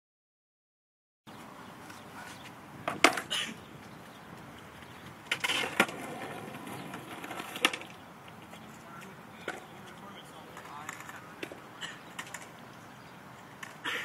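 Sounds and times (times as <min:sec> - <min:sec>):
low background noise: 0:01.3 - 0:14.0
skateboards clacking on concrete: 0:01.8 - 0:12.7, 0:13.3 - 0:14.0.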